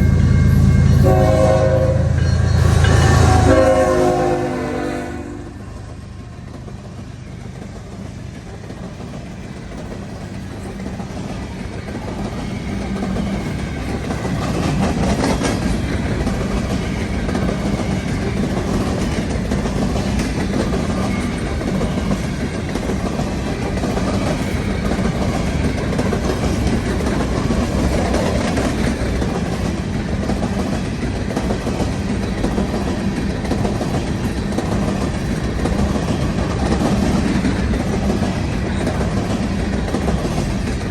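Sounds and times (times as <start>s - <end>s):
freight train rumble: 0.0s - 40.9s
train wheels clacking on rail joints: 5.1s - 40.9s.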